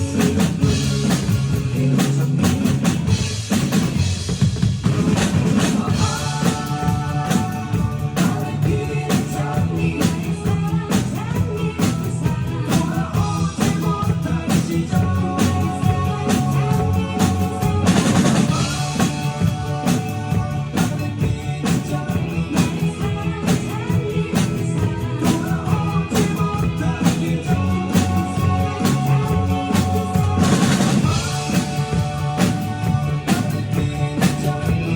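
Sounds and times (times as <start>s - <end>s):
recorded song with vocals: 0.0s - 4.0s, 4.8s - 34.9s
group drumming steady beat: 0.0s - 24.5s, 25.2s - 34.9s.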